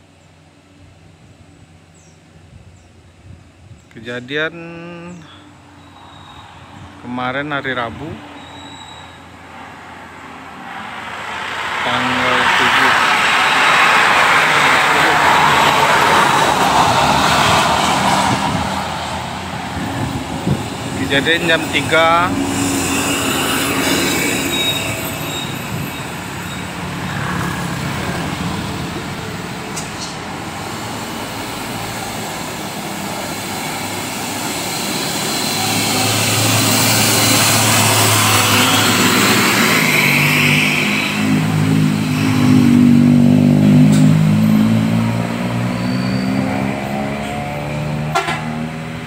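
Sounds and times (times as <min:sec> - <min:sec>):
trucks and cars passing: 0:00.0 - 0:49.0.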